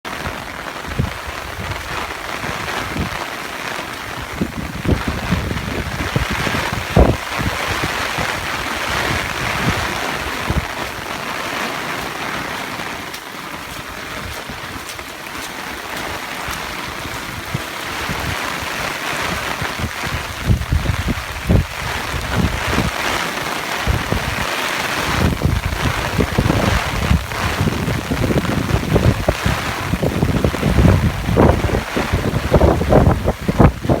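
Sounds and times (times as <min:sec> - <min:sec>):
fast-running river water: 0:00.0 - 0:34.0
heavy rain: 0:00.0 - 0:34.0
wind buffeting microphone: 0:00.2 - 0:34.0.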